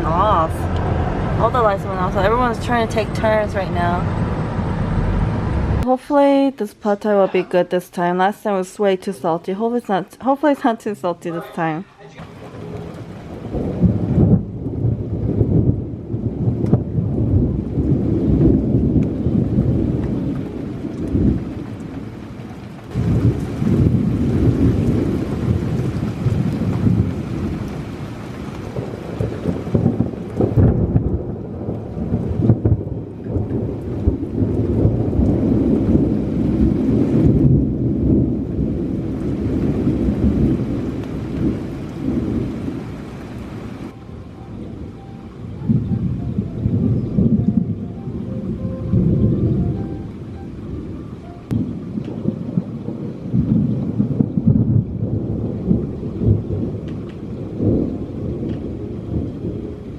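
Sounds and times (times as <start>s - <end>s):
heavy rain: 0.0s - 6.5s, 11.3s - 59.9s
thunder rumbling: 0.0s - 6.5s, 11.6s - 59.9s.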